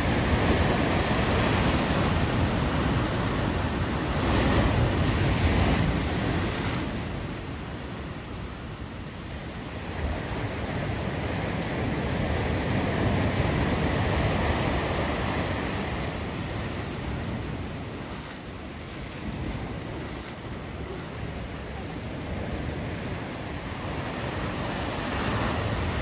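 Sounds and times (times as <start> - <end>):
ocean waves breaking: 0.0 - 8.7, 9.4 - 26.0.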